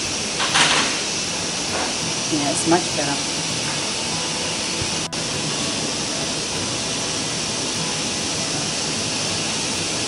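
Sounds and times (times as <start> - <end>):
ventilation fans rushing: 0.0 - 10.0.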